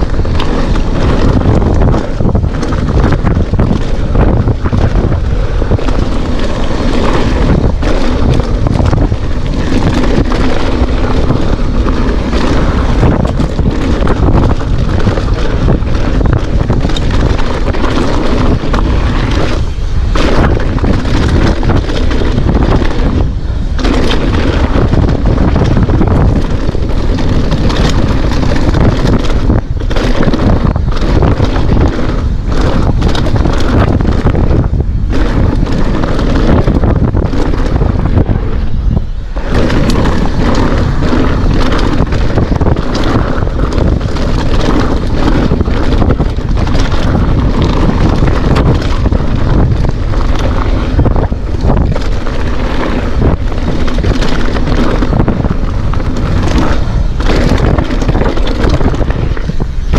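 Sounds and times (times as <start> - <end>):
bike clattering: 0.0 - 59.9
tyres crunching over gravel: 0.0 - 59.9
wind buffeting microphone: 0.0 - 59.9.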